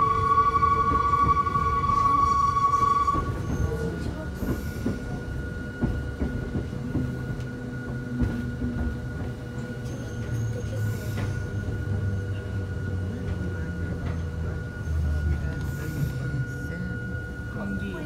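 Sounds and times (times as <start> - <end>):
train rumble: 0.0 - 18.0
train wheels squealing: 0.0 - 18.0.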